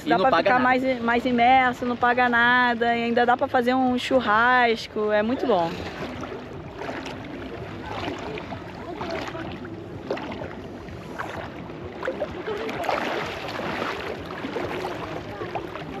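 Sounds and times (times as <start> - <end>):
river water splashing and gurgling: 0.0 - 16.0.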